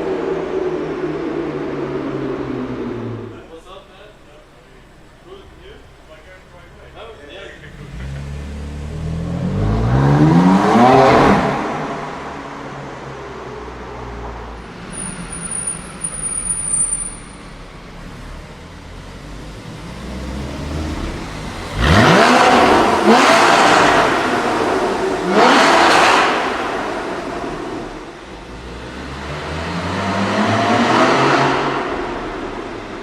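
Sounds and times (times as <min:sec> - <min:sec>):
car engine accelerating hard: 0:05.0 - 0:17.0, 0:17.6 - 0:33.0.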